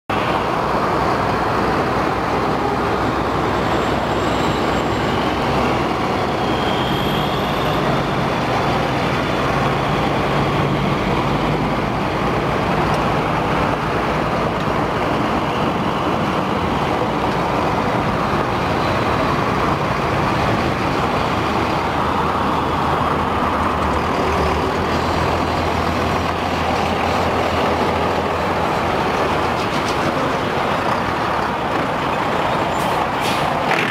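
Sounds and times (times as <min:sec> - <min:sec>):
diesel truck engine driving: 0:00.1 - 0:33.9.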